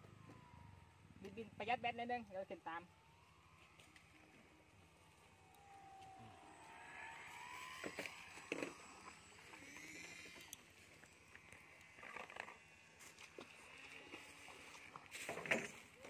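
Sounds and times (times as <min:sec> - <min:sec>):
electric motor and propeller whining: 0:00.0 - 0:16.0.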